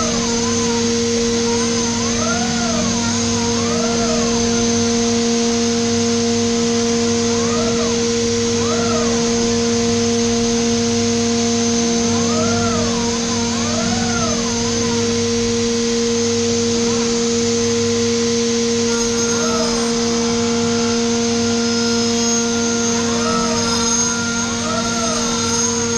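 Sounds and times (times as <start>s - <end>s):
machine axes whining in pitch: 0.0s - 25.9s
milling machine spindle whine: 0.0s - 25.9s.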